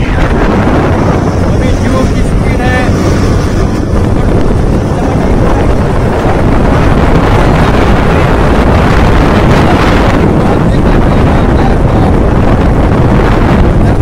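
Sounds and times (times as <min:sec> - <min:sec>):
motorcycle running noise: 0:00.0 - 0:14.0
wind buffeting microphone: 0:00.0 - 0:14.0.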